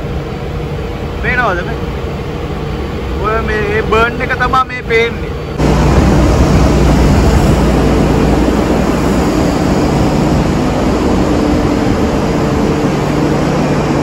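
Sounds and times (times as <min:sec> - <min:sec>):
engine room machinery din: 0:00.0 - 0:14.0
low steady hum: 0:00.0 - 0:14.0.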